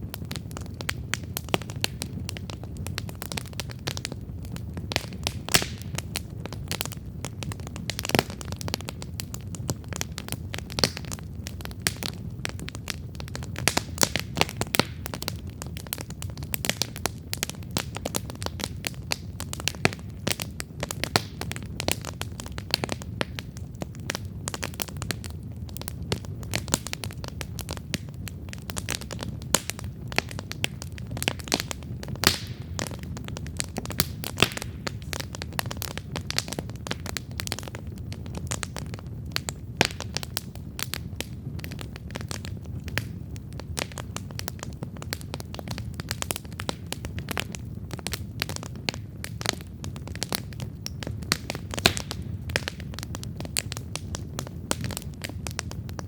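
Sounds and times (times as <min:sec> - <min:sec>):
burning wood popping and snapping: 0:00.0 - 0:56.0
low rush of flames: 0:00.0 - 0:56.0.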